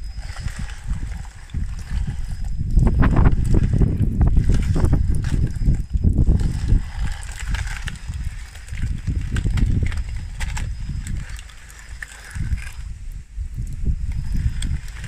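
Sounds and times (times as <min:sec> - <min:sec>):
low rumble: 0:00.0 - 0:15.0
plastic track links clattering: 0:00.2 - 0:12.9.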